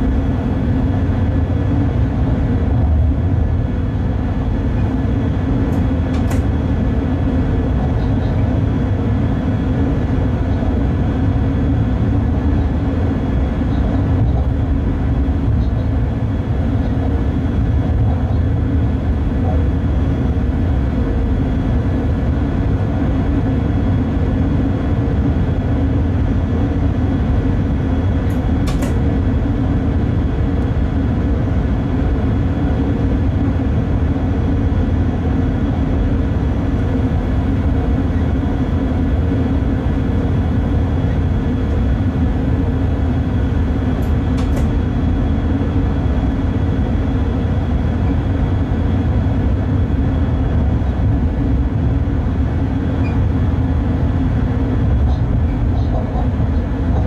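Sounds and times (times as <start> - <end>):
wheels rumbling on track: 0.0 - 57.0.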